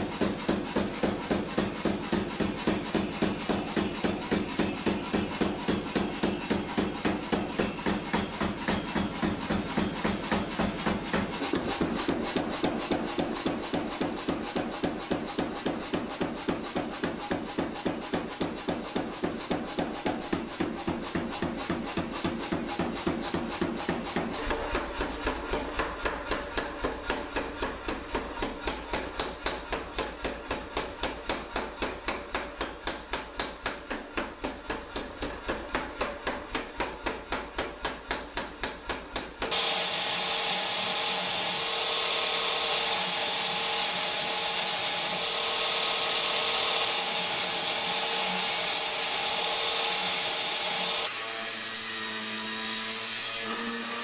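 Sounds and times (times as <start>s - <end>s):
power hammer striking hot steel: 0.0s - 51.1s.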